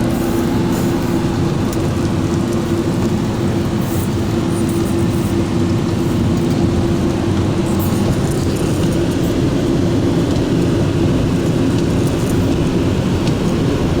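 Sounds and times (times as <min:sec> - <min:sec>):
car wash machinery rushing: 0:00.0 - 0:14.0
constant hum: 0:00.0 - 0:14.0.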